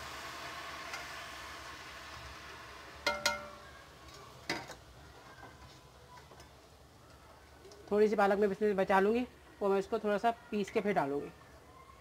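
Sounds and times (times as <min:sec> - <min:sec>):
spinach sizzling in hot oil: 0:00.0 - 0:11.6.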